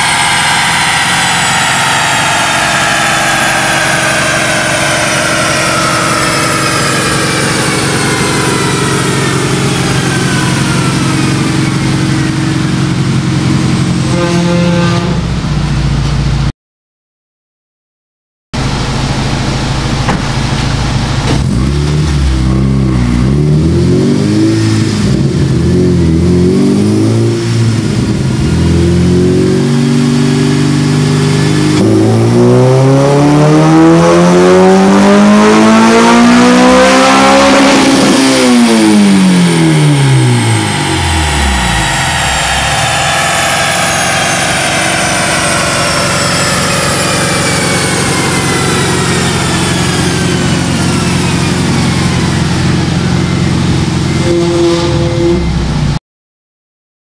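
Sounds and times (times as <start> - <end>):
car engine revving: 0.0 - 15.8, 18.6 - 55.9
high whine of dyno rollers: 0.0 - 16.5, 18.6 - 56.0.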